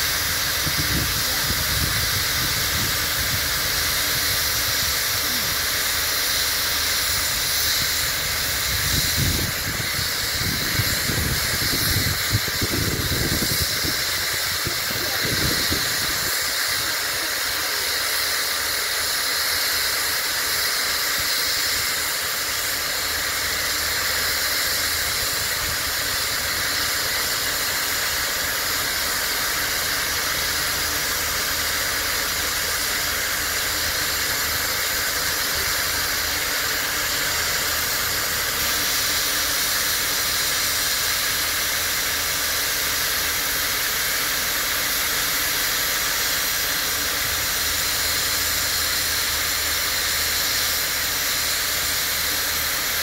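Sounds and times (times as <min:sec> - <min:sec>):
steam hissing from locomotive: 0:00.0 - 0:53.0.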